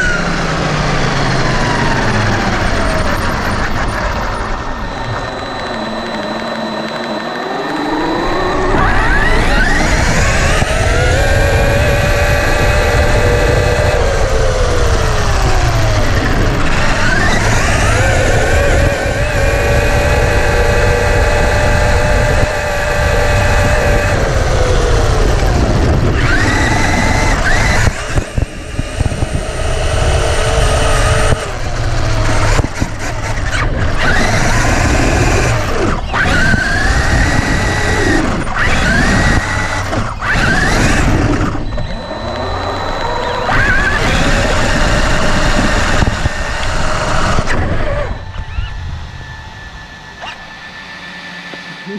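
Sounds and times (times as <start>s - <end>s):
electric motor whining: 0.0s - 51.9s.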